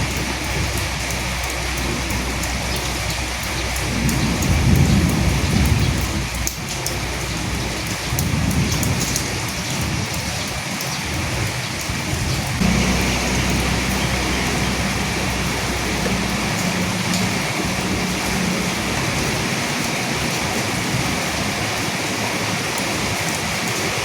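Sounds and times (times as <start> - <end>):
low rolling rumbles: 0.0 - 9.6, 12.1 - 22.5
rain falling on leaves: 0.0 - 24.0.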